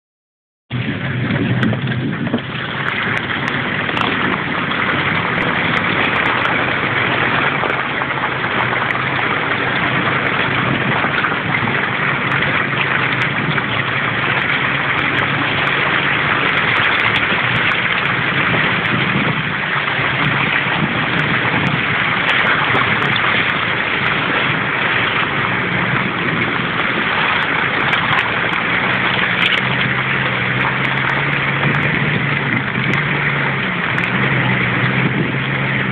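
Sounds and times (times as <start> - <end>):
steady rushing noise: 0.7 - 35.9
vehicle engine hum: 0.7 - 35.9.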